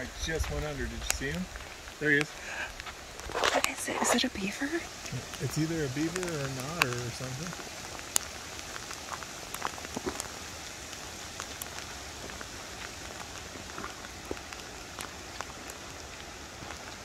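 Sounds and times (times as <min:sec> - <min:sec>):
heavy rain on a lake: 0:00.0 - 0:17.0
sharp water drips: 0:00.0 - 0:17.0.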